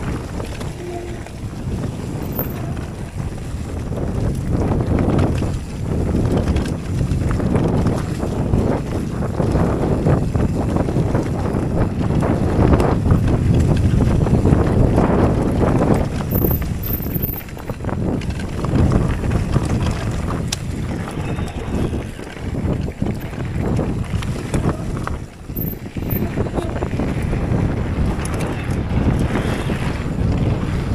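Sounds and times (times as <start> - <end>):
bike knocks and rattles: 0.0 - 21.3, 22.3 - 30.9
bike tyres rumbling on dirt: 0.0 - 30.9
wind buffeting microphone: 0.0 - 30.9.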